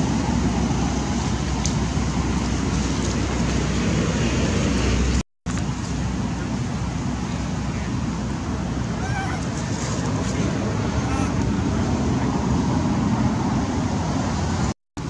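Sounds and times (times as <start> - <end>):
low rumbling outdoor noise: 0.0 - 14.7.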